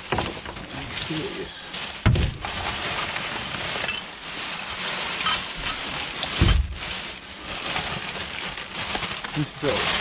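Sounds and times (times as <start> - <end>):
plastic bags rustling: 0.0 - 10.0.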